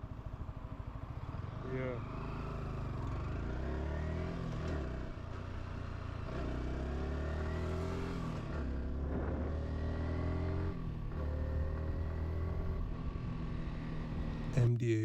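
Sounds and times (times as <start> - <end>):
motorcycle engine accelerating: 1.2 - 14.5.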